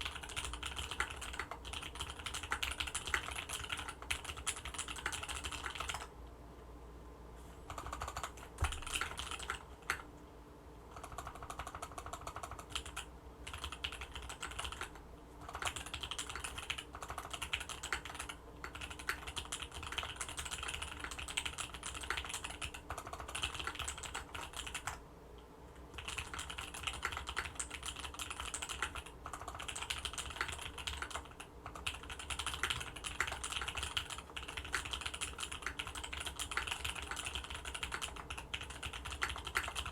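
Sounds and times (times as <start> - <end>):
mechanical keyboard typing: 0.0 - 6.1, 7.7 - 10.1, 10.9 - 25.0, 25.8 - 39.9.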